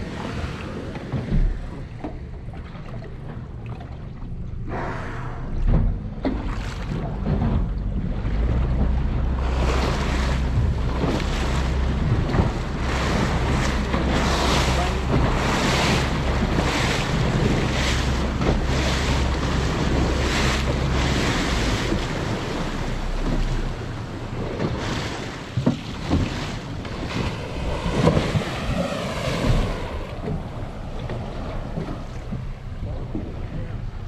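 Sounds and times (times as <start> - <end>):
low rumble: 0.0 - 34.0
waves washing against hull: 0.0 - 34.0
wind buffeting microphone: 5.5 - 34.0.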